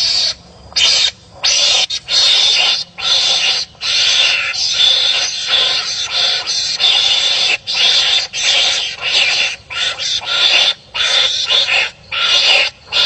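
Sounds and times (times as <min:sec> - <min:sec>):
harsh raspy animal calls: 0:00.0 - 0:13.0.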